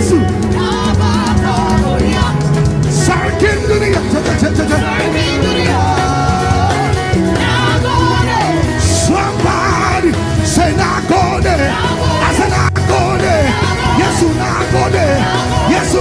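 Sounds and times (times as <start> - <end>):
bass line: 0.0 - 16.0
gospel band playing: 0.0 - 16.0
person singing: 0.0 - 16.0.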